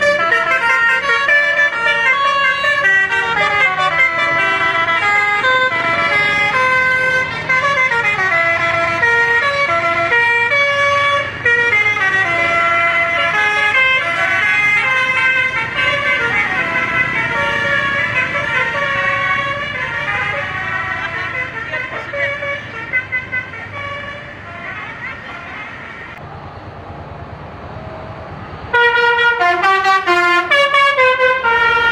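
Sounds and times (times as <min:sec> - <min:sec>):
bus melodic horn tune: 0:00.0 - 0:26.2, 0:28.7 - 0:31.9.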